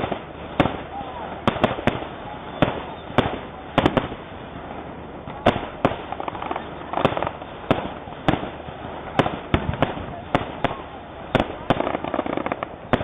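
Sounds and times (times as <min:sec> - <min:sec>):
background rumble: 0:00.0 - 0:13.0
fireworks bursting: 0:00.0 - 0:13.0.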